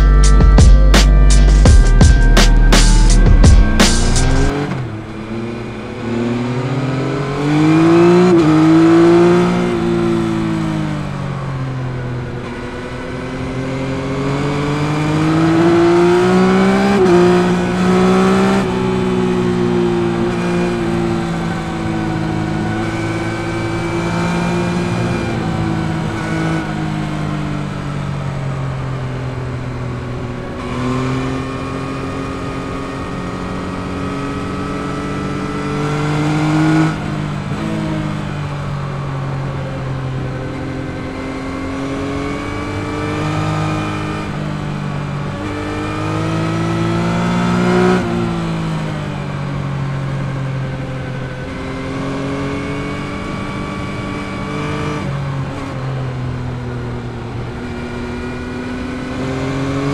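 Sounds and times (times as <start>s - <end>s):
motorcycle engine revving: 0.0s - 11.2s, 12.2s - 59.9s.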